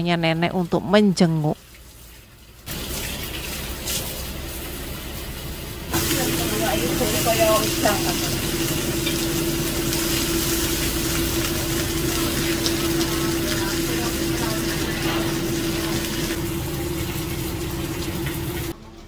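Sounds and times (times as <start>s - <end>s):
fan hum: 0.0s - 19.0s
fish sizzling in hot oil: 0.6s - 18.8s.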